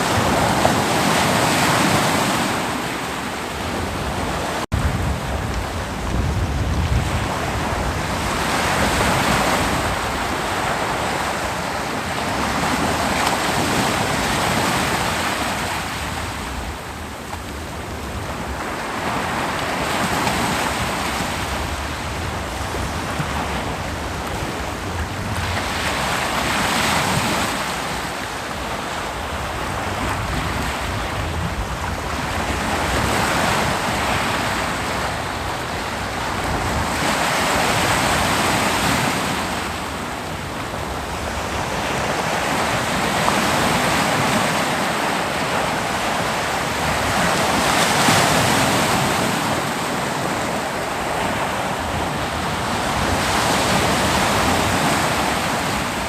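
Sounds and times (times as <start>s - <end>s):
ocean surf breaking: 0.0s - 56.0s
wind on microphone: 0.0s - 56.0s.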